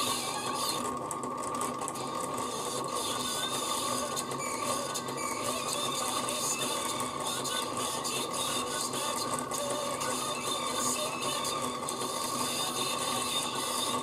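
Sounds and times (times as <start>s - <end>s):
motor whine with gear rattle: 0.0s - 14.0s
record playing: 0.0s - 14.0s.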